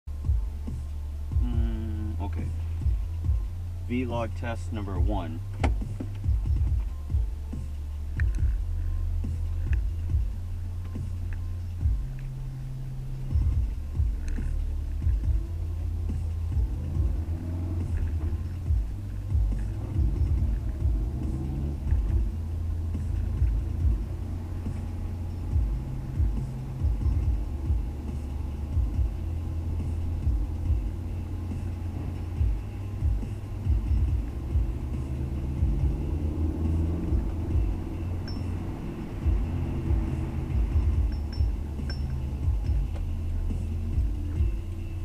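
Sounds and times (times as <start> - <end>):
car engine droning in cabin: 0.0 - 45.0
short low thumps: 0.1 - 3.9, 5.0 - 44.7.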